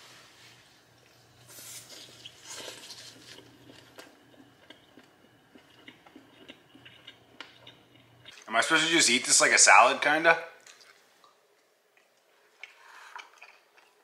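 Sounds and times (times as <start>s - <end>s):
low steady hum: 0.0s - 14.0s
food crunching and rustling: 0.1s - 8.8s, 10.6s - 14.0s.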